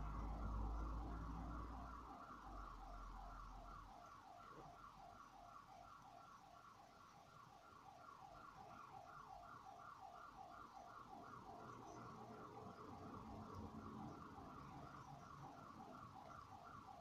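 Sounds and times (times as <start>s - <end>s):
faint two-tone electronic siren: 0.0s - 17.0s.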